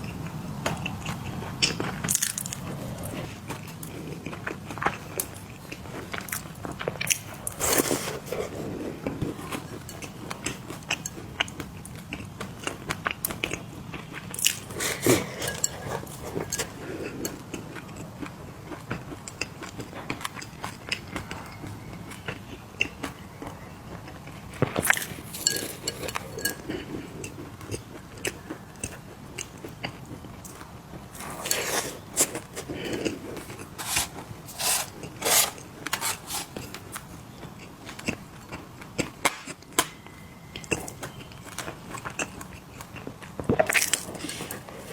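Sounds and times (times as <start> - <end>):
cookies crunching: 0.8 - 23.2, 24.0 - 40.0, 40.6 - 44.9.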